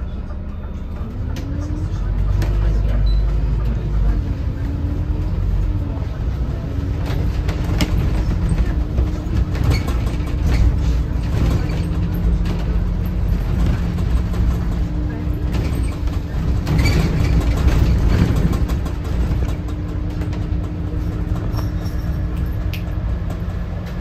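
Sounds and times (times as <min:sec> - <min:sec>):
diesel bus engine running: 0:00.0 - 0:24.0.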